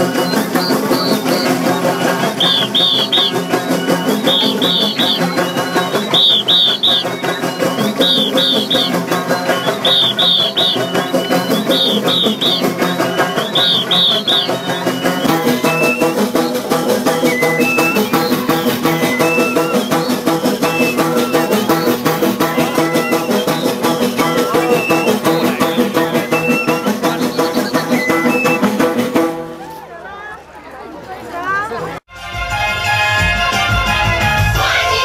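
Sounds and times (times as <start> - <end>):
folk dance music with drums: 0.0 - 30.0, 32.1 - 35.0.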